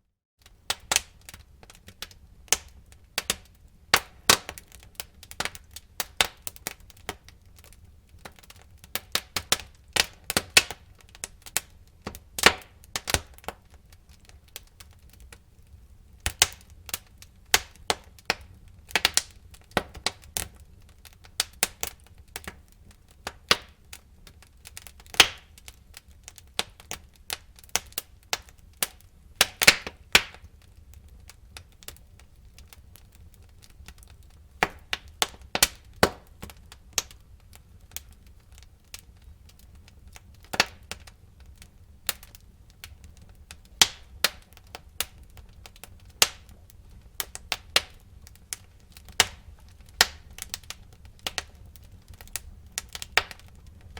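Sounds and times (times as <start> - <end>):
low rumble of flames: 0.4 - 53.9
wood fire crackling: 0.4 - 53.9.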